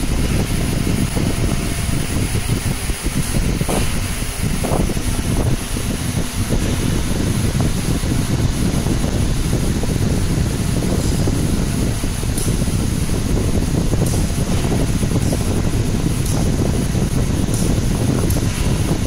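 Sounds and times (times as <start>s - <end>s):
machine fan noise: 0.0s - 19.0s.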